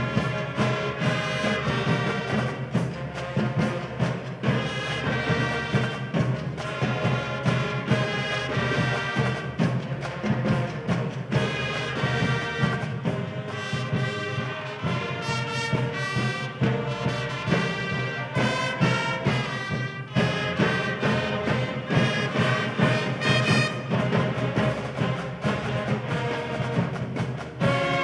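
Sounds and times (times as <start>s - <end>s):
brass band tune: 0.0s - 28.0s
percussion hits: 0.0s - 28.0s.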